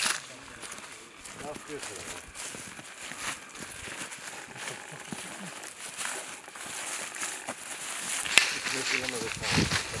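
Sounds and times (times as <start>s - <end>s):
faint voices: 0.0s - 10.0s
footsteps crunching dry leaves: 0.0s - 10.0s.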